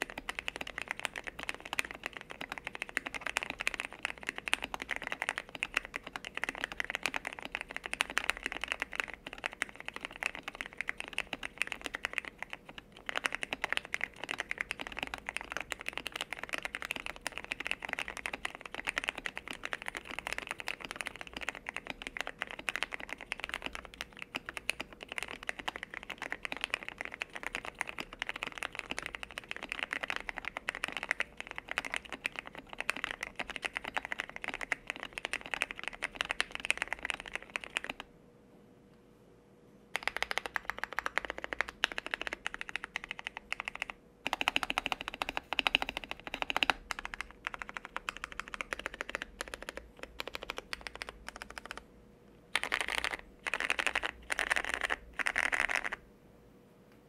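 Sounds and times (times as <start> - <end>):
fast keyboard typing: 0.0 - 38.1, 40.0 - 51.9, 52.6 - 56.0.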